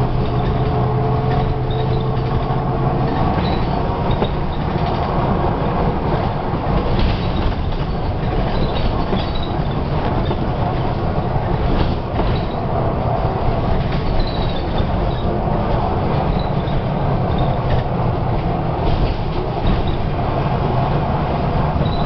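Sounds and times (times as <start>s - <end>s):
interior clicks and rattles: 0.0s - 20.4s
bus diesel engine running: 0.0s - 22.0s
road noise: 0.0s - 22.0s.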